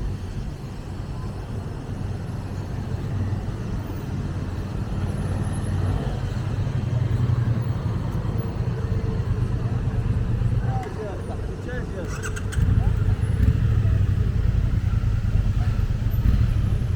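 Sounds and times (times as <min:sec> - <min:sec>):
street traffic rumble: 0:00.0 - 0:16.9
vehicle engine hum: 0:00.0 - 0:16.9.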